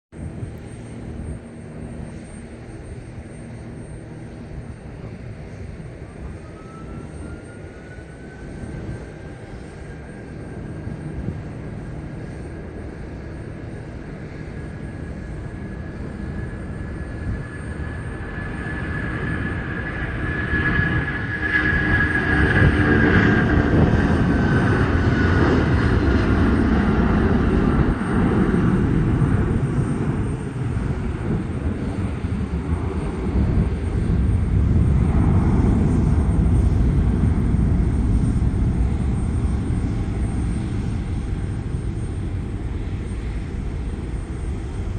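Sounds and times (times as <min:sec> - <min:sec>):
jet engine rumble: 0:00.1 - 0:44.9
jet engine whine: 0:00.1 - 0:44.9.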